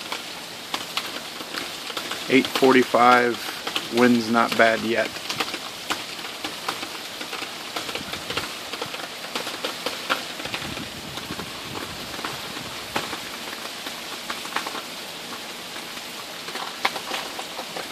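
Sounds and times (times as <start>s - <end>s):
heavy rain: 0.0s - 17.9s
raindrops splashing close by: 0.0s - 17.9s.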